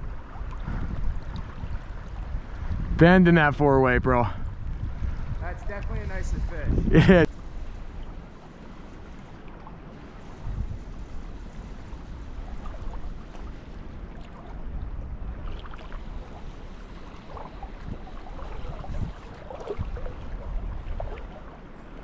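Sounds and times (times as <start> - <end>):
faint ticks and splashes: 0.0 - 3.3, 4.7 - 6.4, 7.3 - 22.0
wind on microphone: 0.0 - 22.0.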